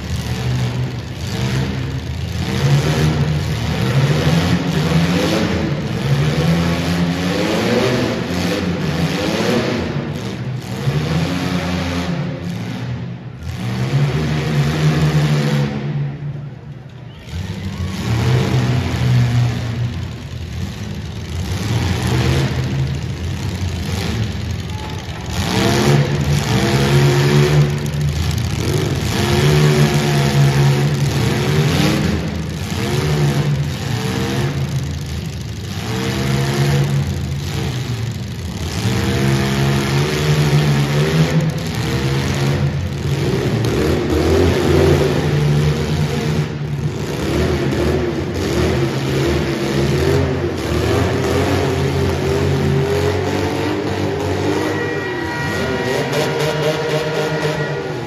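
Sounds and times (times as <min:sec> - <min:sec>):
car engines revving hard: 0:00.0 - 0:58.0.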